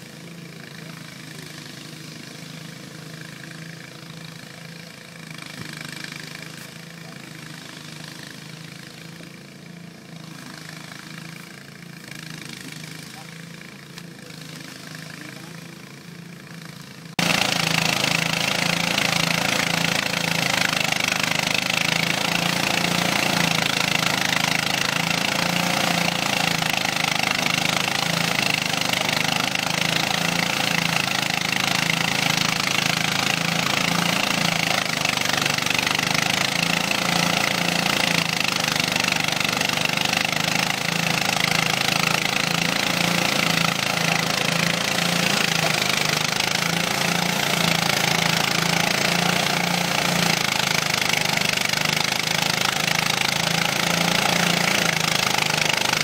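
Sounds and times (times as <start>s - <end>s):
thresher engine and drum throbbing: 0.0s - 56.0s.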